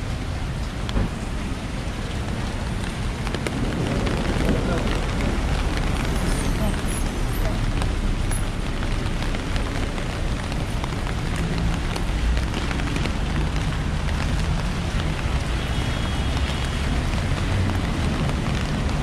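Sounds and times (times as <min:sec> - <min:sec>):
low traffic rumble: 0:00.0 - 0:19.0
rain falling on street: 0:00.0 - 0:19.0.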